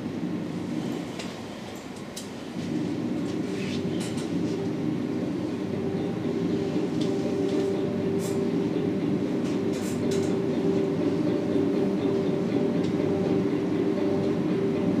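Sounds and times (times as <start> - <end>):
low droning hum over loudspeakers: 0.0 - 15.0.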